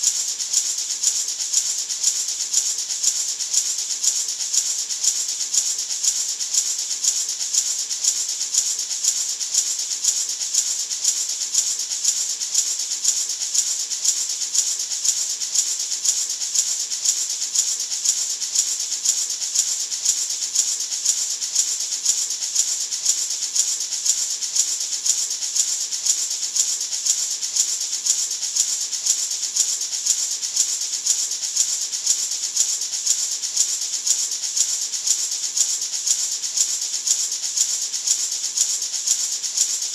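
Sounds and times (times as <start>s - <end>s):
maraca rattling: 0.0s - 39.9s.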